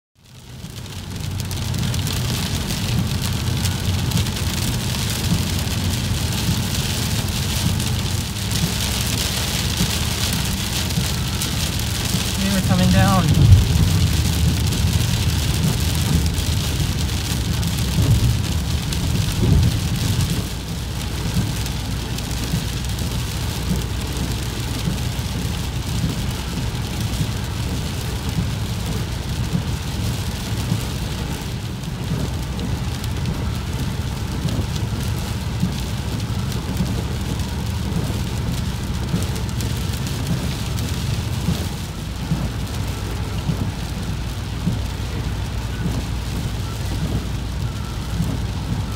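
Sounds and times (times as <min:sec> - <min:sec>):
heavy windswept rain: 0:00.2 - 0:48.9
low rumble: 0:00.2 - 0:48.9.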